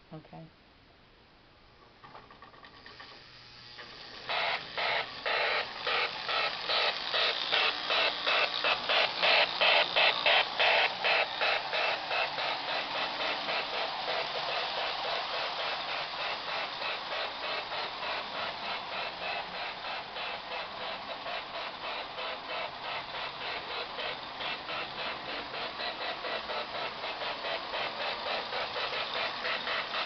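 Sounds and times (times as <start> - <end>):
toy steam locomotive chuffing: 1.9 - 30.0.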